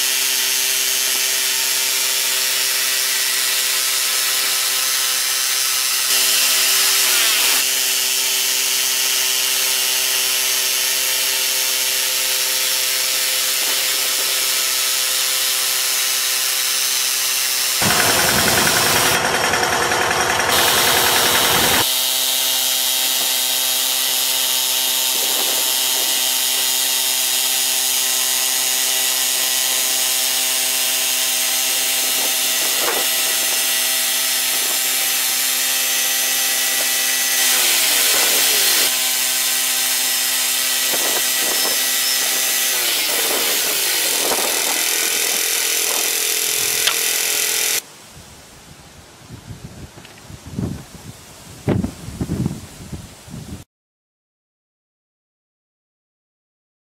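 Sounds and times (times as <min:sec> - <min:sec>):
band blade sawing through log: 0:00.0 - 0:47.8
bandsaw mill engine droning: 0:00.0 - 0:47.8.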